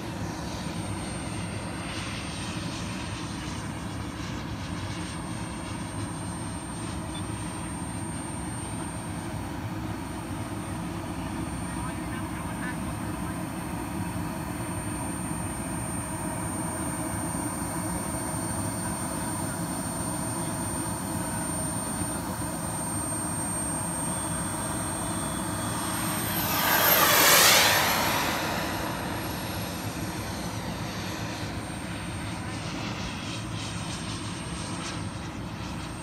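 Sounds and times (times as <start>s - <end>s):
model jet turbine whine: 0.0s - 36.0s.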